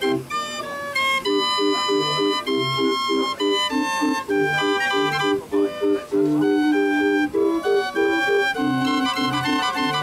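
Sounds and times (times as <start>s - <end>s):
fairground organ playing tune: 0.0s - 10.0s.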